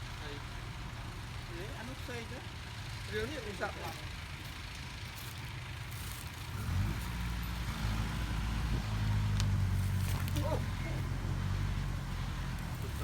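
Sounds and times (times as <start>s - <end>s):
diesel engine of heavy machinery: 0.0s - 13.0s.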